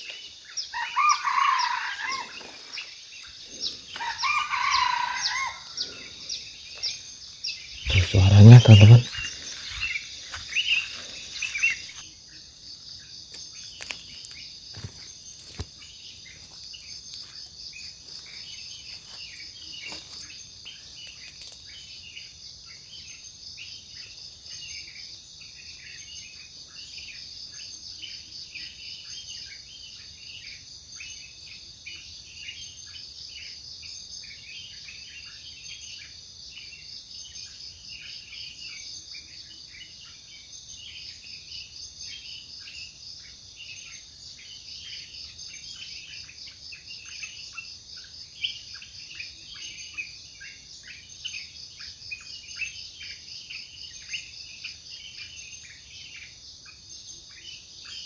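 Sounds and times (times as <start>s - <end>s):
insect chirps: 0.0s - 58.0s
insects droning: 0.0s - 58.0s.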